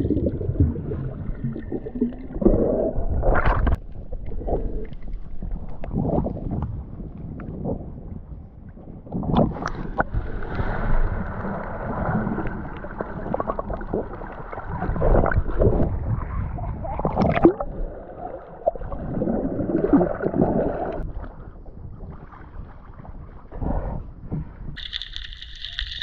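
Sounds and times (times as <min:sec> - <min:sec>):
muffled water sloshing and gurgling: 0:00.0 - 0:26.0.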